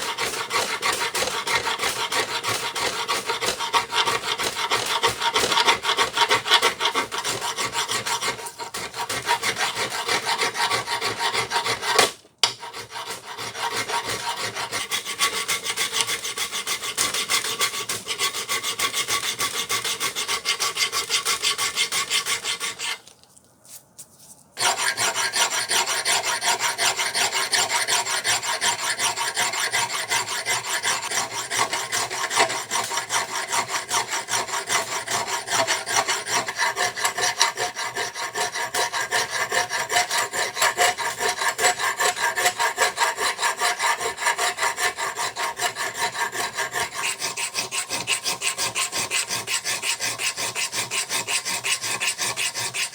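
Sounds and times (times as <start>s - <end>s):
hand file rasping: 0.0s - 23.1s, 24.6s - 52.9s.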